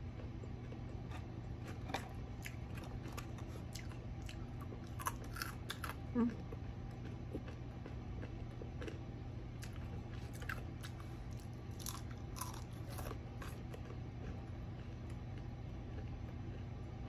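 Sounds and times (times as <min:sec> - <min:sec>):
crunchy chewing of fried food: 0:00.0 - 0:17.0.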